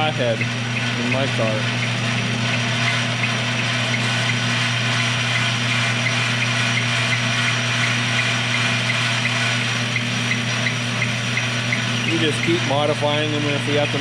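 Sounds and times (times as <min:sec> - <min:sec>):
lathe motor hum: 0:00.0 - 0:14.0.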